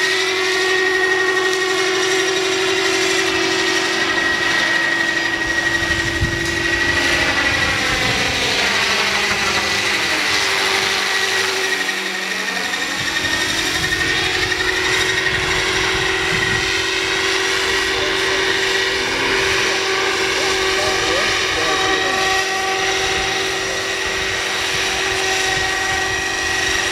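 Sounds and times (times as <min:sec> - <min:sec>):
electric motor whine: 0:00.0 - 0:26.9
helicopter rotor noise: 0:00.0 - 0:26.9.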